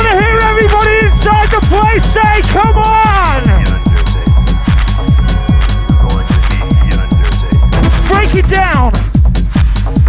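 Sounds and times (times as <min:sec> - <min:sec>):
hard trance dance music: 0:00.0 - 0:10.0.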